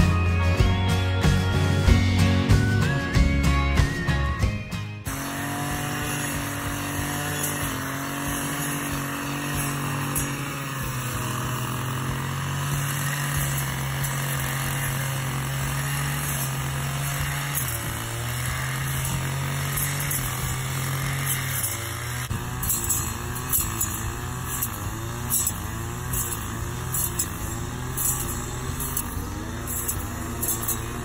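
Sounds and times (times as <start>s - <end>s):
brush cutter engine cutting grass: 5.0s - 31.0s.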